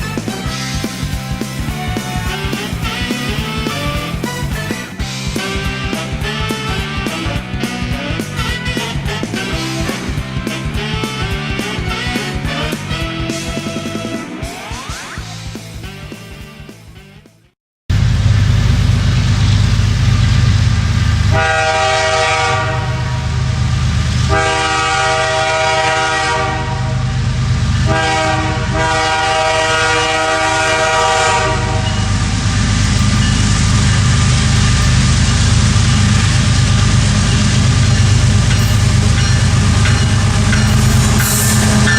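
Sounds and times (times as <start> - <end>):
train air horn blasts: 0.0 - 14.4, 19.7 - 41.9
diesel locomotive engine rumbling: 0.0 - 17.1, 17.9 - 41.9.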